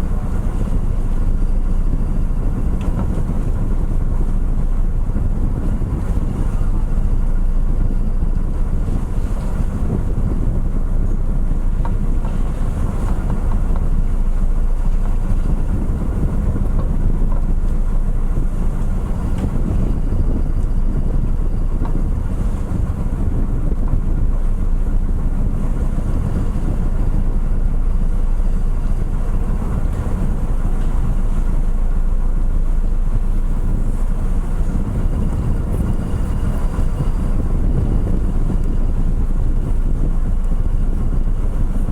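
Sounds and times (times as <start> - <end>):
ship engine drone: 0.0 - 41.9
wind buffeting microphone: 0.0 - 41.9.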